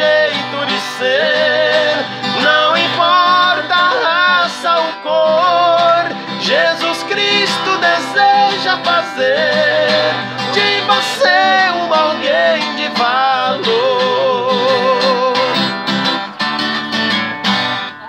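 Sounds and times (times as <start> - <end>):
men singing gospel song: 0.0 - 15.7
strummed acoustic guitar: 0.0 - 18.0.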